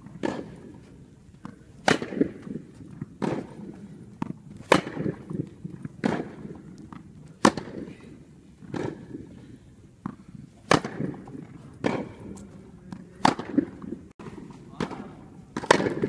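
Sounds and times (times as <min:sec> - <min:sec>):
tennis racket hitting ball: 0:00.0 - 0:09.4, 0:10.0 - 0:16.0
tennis ball bouncing: 0:00.0 - 0:16.0.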